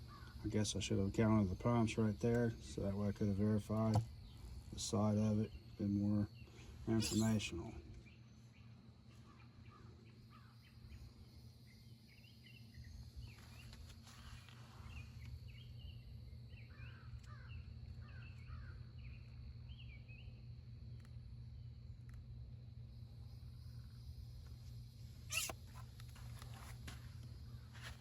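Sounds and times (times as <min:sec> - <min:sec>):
small birds chirping: 0:00.0 - 0:21.9, 0:22.6 - 0:28.0
faint low hum: 0:00.0 - 0:28.0.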